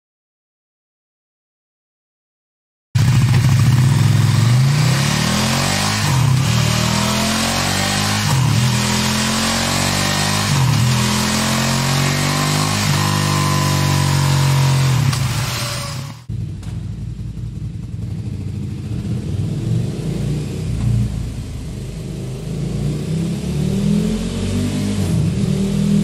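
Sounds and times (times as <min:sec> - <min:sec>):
motorcycle engine revving: 0:03.0 - 0:26.0.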